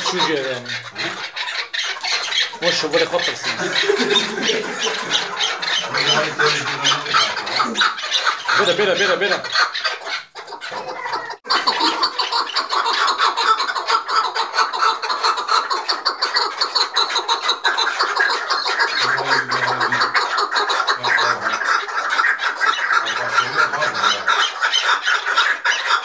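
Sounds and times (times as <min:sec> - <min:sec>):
partridges calling rapidly: 0:00.0 - 0:26.0.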